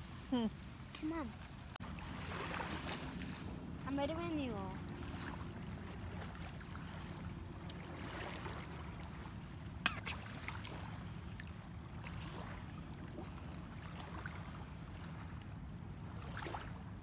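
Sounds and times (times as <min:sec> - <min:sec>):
water lapping on pebbly shore: 0:00.0 - 0:15.2.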